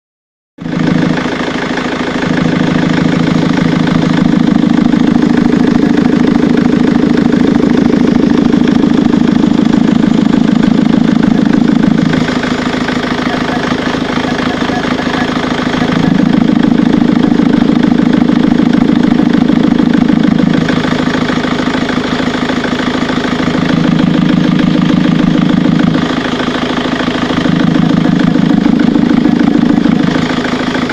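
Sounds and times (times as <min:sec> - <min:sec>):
deep engine drone: 0:00.6 - 0:30.9
diesel engine idling: 0:00.6 - 0:30.9.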